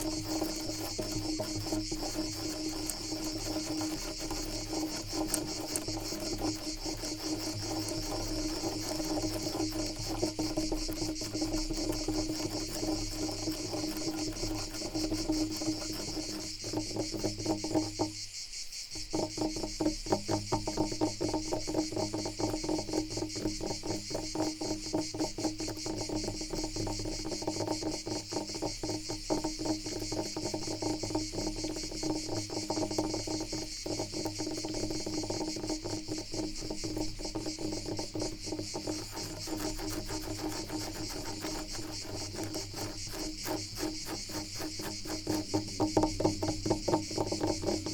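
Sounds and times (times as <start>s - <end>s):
scratching strokes on wood: 0.0s - 18.2s, 19.0s - 47.9s
crickets chirping: 0.0s - 47.9s.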